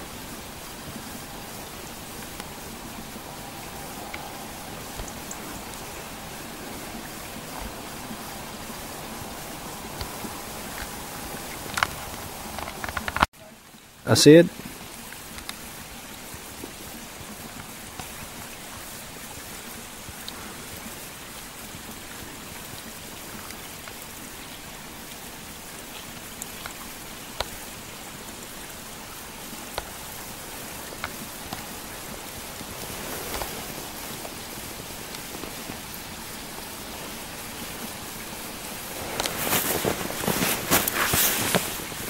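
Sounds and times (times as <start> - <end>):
wet snow pattering on branches: 0.0 - 13.3, 14.9 - 42.0.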